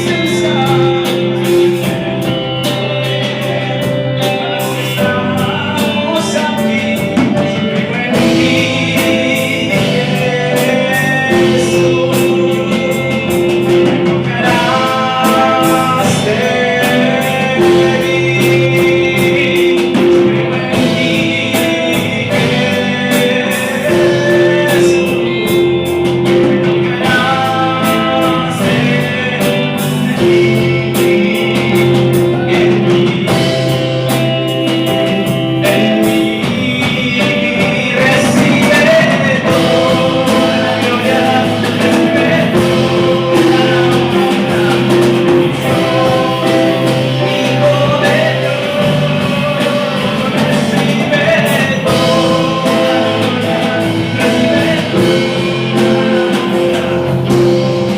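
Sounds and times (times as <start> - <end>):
guitar chords: 0.0 - 57.9
person singing: 0.0 - 57.9.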